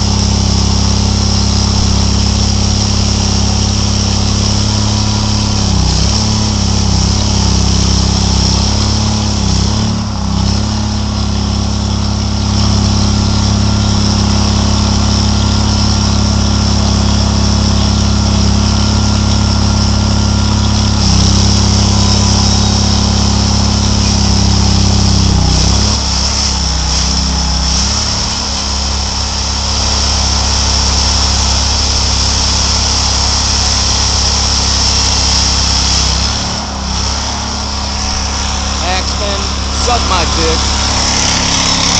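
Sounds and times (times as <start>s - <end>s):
chainsaw cutting into wall: 0.0s - 41.9s.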